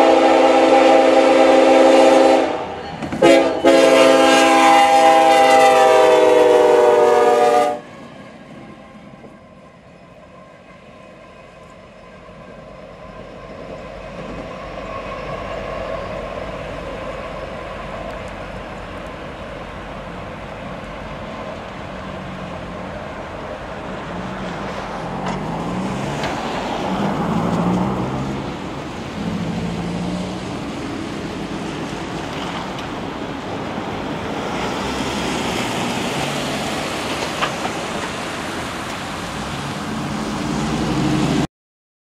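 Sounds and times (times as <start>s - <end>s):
locomotive engines droning: 0.0s - 41.5s.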